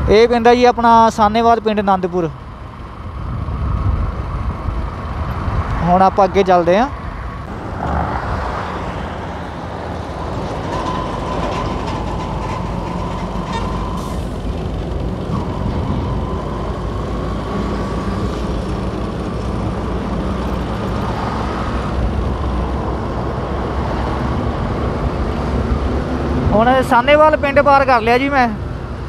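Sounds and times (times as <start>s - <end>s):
truck driving alongside: 0.0s - 29.0s
wind and road noise: 0.0s - 29.0s.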